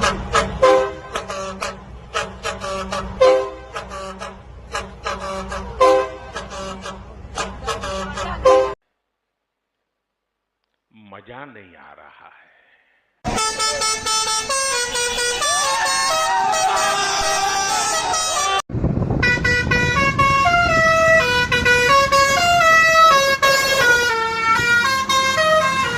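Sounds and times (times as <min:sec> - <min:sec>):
truck musical horn tune: 0:00.0 - 0:08.8, 0:13.3 - 0:25.9.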